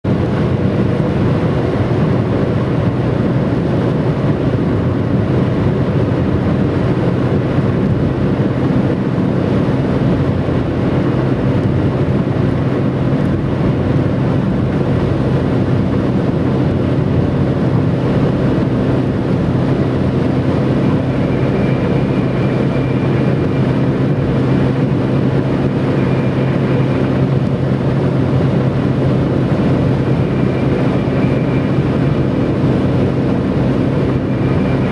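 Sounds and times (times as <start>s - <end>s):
tyre road noise with whistle: 1.2s - 34.9s.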